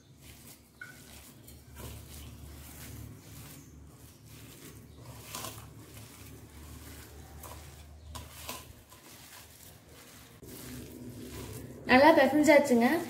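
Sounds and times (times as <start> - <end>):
hand squishing wet batter: 0.0 - 13.0.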